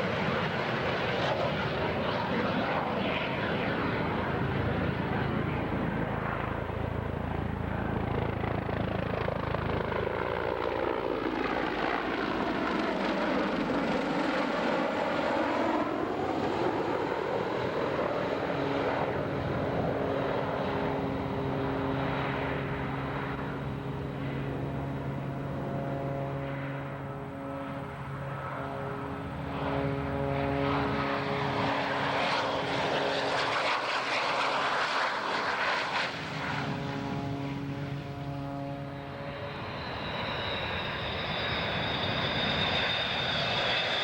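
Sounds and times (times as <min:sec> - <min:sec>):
airplane flying past: 0:00.0 - 0:44.0.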